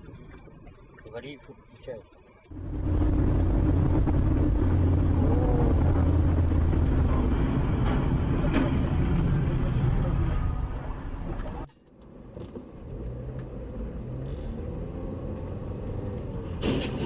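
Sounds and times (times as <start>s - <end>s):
moving car rumble: 0.0s - 17.0s.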